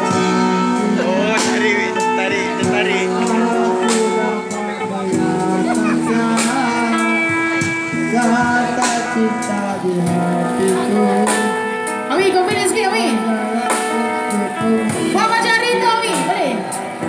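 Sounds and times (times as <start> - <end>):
live band with guitars and drums: 0.0 - 17.0.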